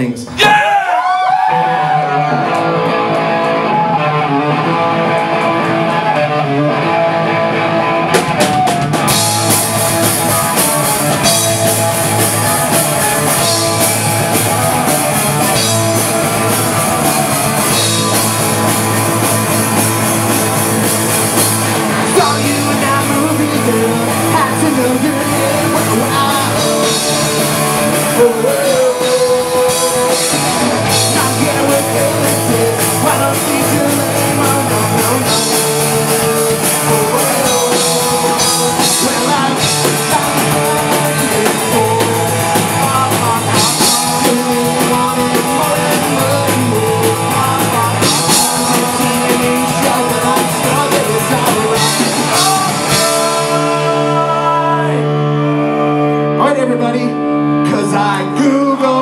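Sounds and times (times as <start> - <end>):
drum kit: 0.0 - 55.0
bass guitar: 0.0 - 59.0
electric guitar: 0.0 - 59.0
person singing: 9.1 - 59.0.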